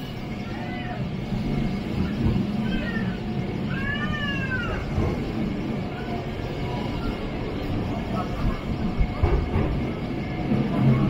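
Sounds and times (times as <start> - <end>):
tram rumbling: 0.0 - 11.0.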